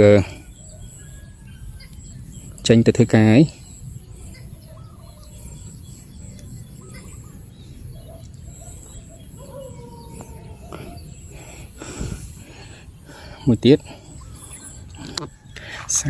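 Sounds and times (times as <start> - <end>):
birds chirping: 0.0 - 16.0
low background noise: 0.0 - 16.0.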